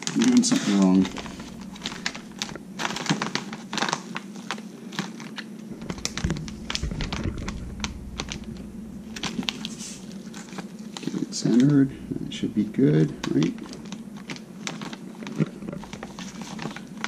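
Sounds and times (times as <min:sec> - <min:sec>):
plastic bag crinkling and clicking: 0:00.0 - 0:17.0.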